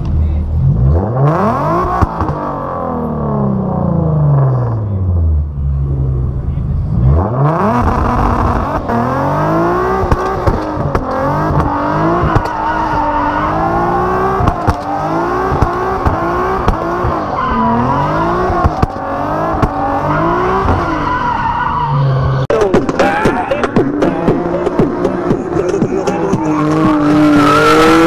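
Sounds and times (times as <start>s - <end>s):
car engine revving hard: 0.6s - 4.8s, 6.9s - 22.4s, 23.3s - 28.0s.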